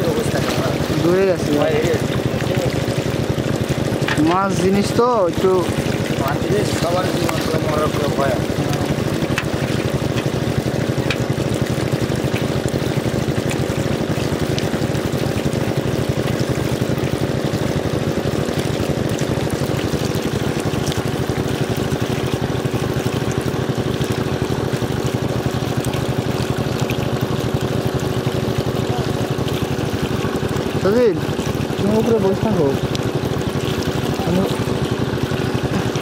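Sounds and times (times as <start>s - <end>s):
water gushing and splashing: 0.0s - 36.0s
water pump engine humming: 0.0s - 36.0s.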